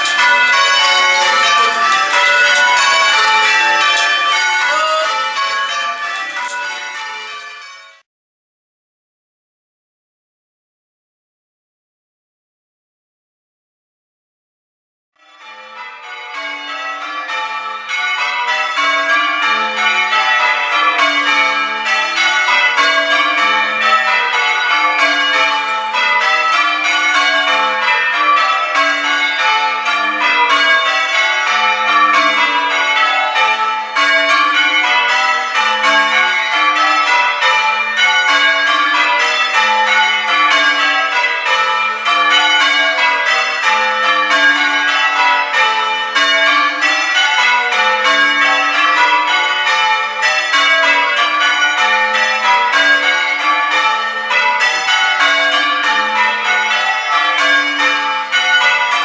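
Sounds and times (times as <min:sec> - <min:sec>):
church bells change ringing: 0:00.0 - 0:08.1, 0:15.2 - 0:59.0.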